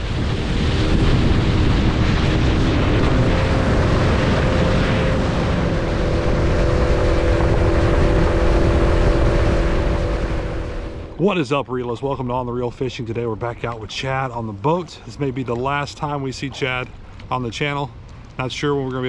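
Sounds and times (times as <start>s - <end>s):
boat motor running: 0.0s - 19.0s
wind buffeting microphone: 0.0s - 19.0s.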